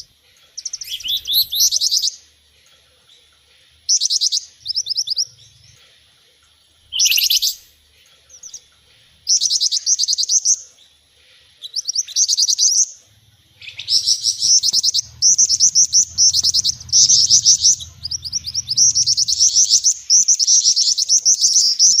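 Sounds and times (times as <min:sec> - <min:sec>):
birds chirping trills: 0:00.0 - 0:22.0.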